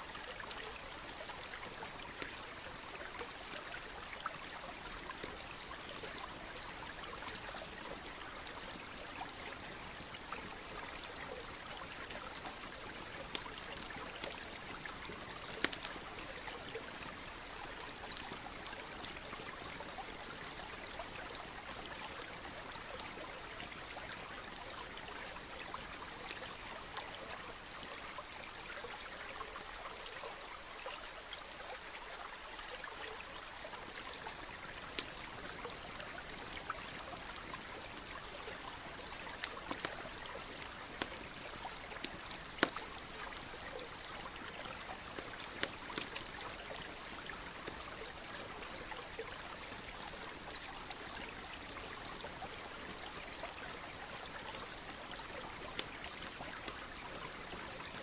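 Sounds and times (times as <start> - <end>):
stream running: 0.0 - 58.0
campfire crackling and popping: 0.1 - 30.2, 33.3 - 58.0.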